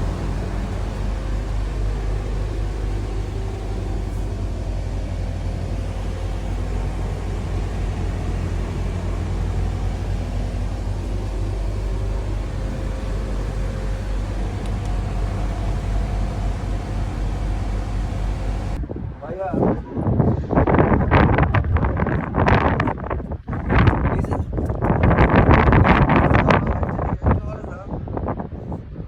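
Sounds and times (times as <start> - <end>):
low mechanical drone: 0.0 - 29.0.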